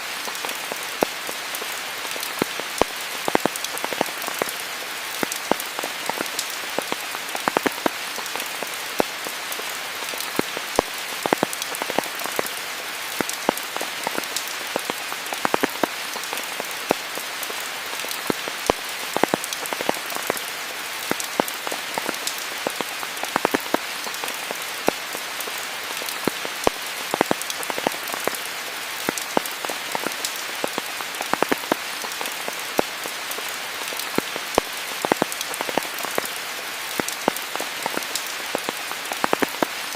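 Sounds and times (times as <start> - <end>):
sharp water drips: 0.0 - 39.9
steady rainfall: 0.0 - 39.9.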